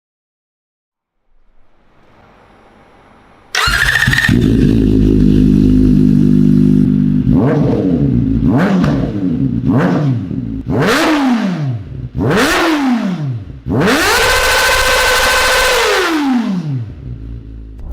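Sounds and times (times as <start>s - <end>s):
motorcycle engine revving: 1.6s - 17.9s.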